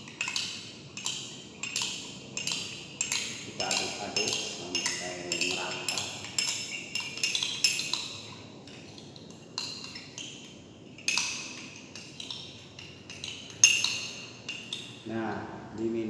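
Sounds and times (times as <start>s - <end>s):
spoon clinking in a glass: 0.0s - 15.1s.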